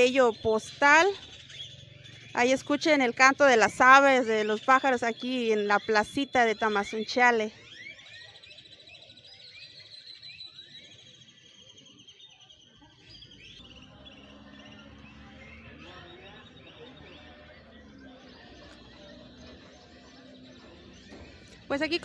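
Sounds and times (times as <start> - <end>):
birds singing and chirping: 0.0 - 22.0.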